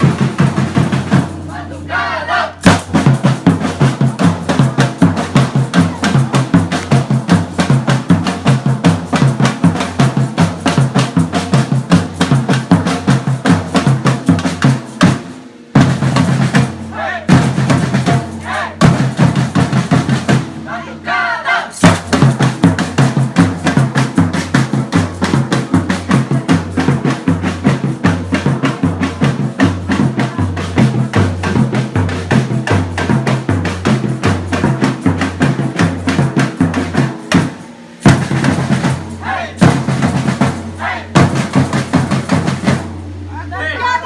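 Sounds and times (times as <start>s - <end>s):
rapid higher drum strokes: 0.0s - 1.4s, 2.6s - 20.6s, 21.8s - 43.5s.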